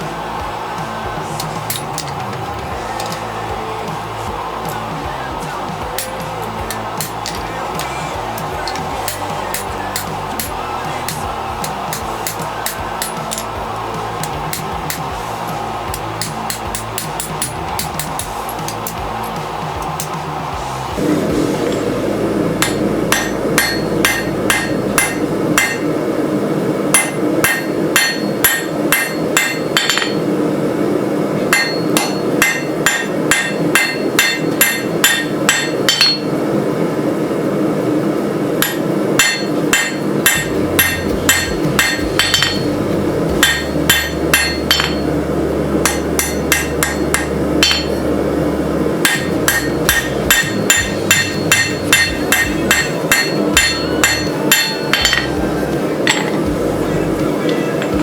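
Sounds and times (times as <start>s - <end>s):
hammer striking steel on anvil: 0.8s - 26.0s, 26.9s - 30.3s, 31.5s - 36.4s, 38.6s - 48.3s, 48.9s - 56.6s.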